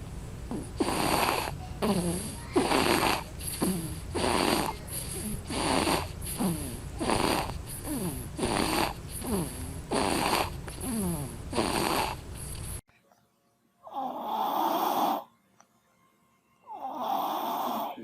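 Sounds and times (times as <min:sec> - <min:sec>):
baby snoring: 0:00.5 - 0:12.8, 0:13.8 - 0:15.3, 0:16.7 - 0:18.0.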